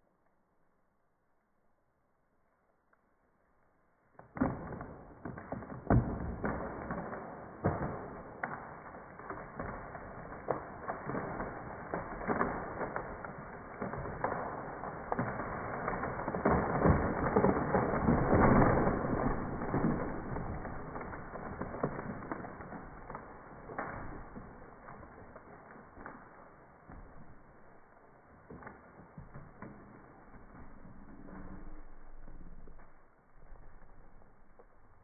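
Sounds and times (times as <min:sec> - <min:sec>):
tree trunk cracking: 0:04.2 - 0:35.0
branches crashing and foliage thrashing: 0:04.3 - 0:35.0.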